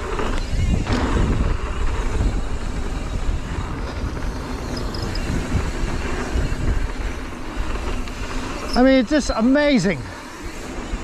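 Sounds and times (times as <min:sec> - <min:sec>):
bike tyres rolling on dirt: 0:00.0 - 0:11.0
wind buffeting microphone: 0:00.0 - 0:11.0.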